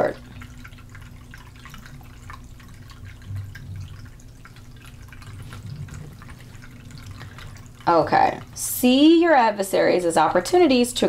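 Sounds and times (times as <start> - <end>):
low steady hum: 0.0 - 11.0
water dripping and trickling: 0.0 - 11.0.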